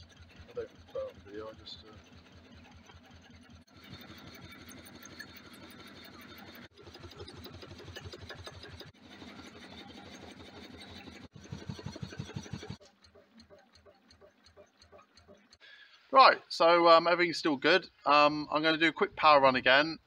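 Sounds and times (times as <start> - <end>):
stirling engine rhythmic beat: 0.0 - 16.1.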